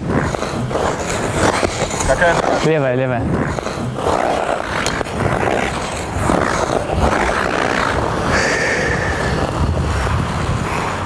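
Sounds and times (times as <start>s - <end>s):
skate blades scraping ice: 0.0s - 11.0s
steady low rumble: 0.0s - 11.0s.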